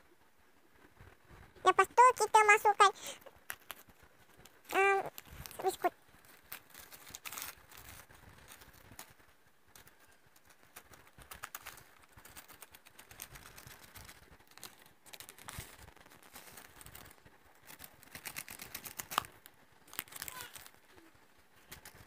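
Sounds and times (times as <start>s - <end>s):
plastic packet crinkling: 1.7s - 20.8s.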